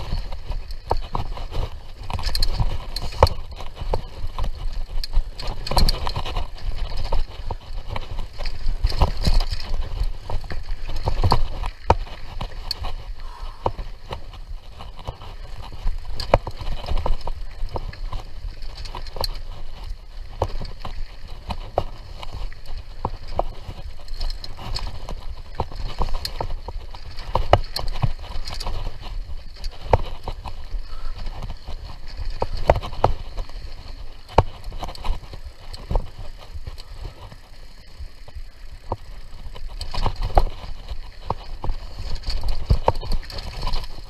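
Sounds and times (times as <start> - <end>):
bike knocking and rattling: 0.0 - 44.0.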